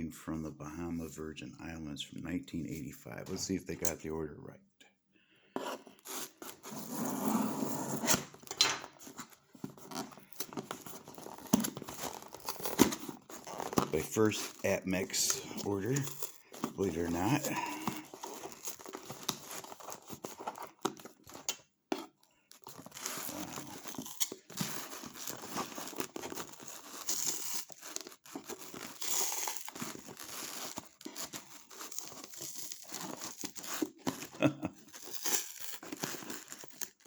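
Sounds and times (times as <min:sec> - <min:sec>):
cardboard and packaging tearing: 0:05.7 - 0:37.0.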